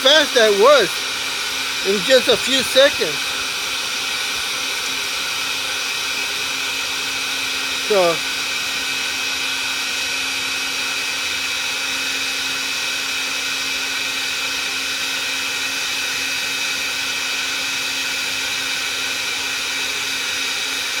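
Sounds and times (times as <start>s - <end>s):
heat gun blowing air: 0.0s - 21.0s.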